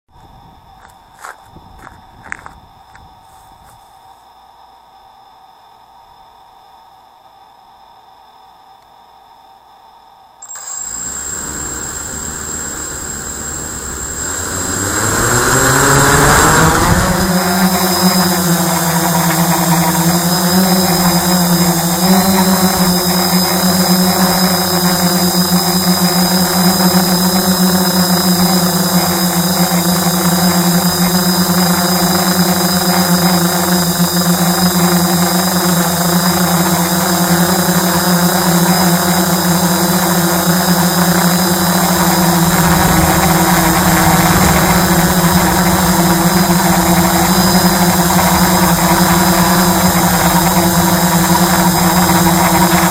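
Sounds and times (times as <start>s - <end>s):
drone motors humming and whining: 10.4s - 52.9s.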